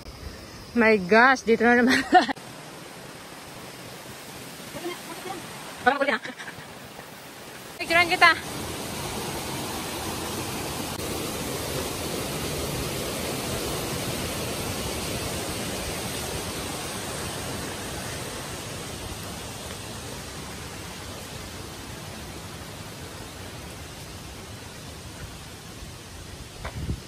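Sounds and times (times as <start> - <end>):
stream rushing over rocks: 2.1 - 27.0.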